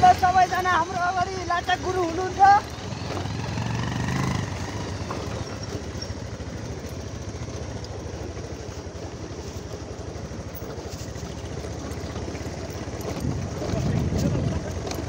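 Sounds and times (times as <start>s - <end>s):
motorcycle engines puttering: 0.0s - 15.0s
road noise: 0.0s - 15.0s.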